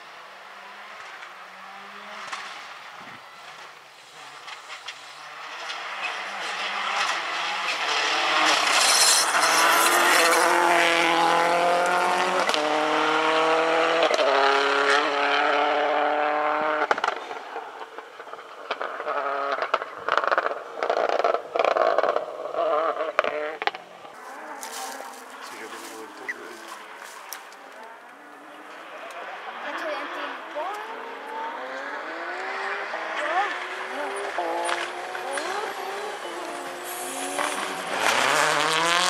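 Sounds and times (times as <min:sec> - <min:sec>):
rally car engine accelerating: 0:00.0 - 0:39.0.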